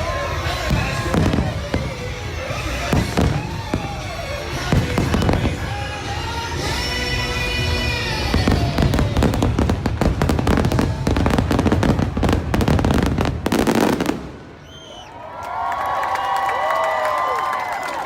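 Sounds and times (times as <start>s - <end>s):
crowd cheering and screaming: 0.0s - 5.4s, 6.0s - 14.0s, 14.6s - 18.0s
fireworks show music: 0.0s - 14.8s
fireworks crackling and banging: 0.0s - 15.0s.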